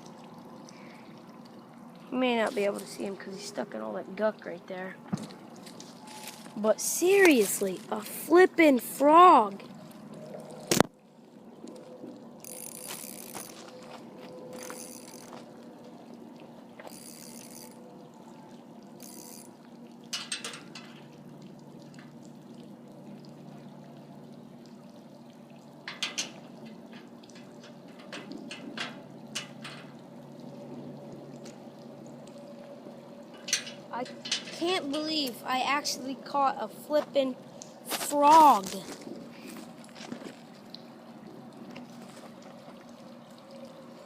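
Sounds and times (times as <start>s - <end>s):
water trickling and lapping: 0.0s - 44.0s.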